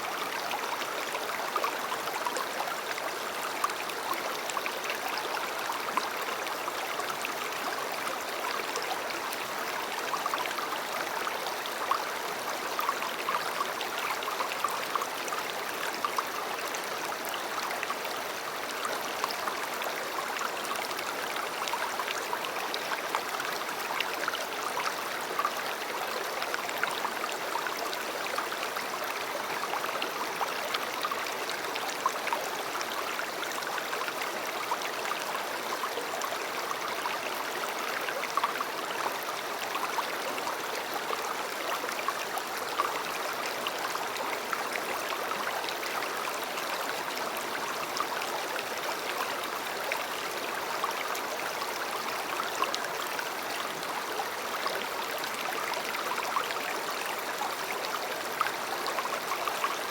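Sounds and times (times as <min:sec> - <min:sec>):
river water babbling over stones: 0:00.0 - 0:59.9.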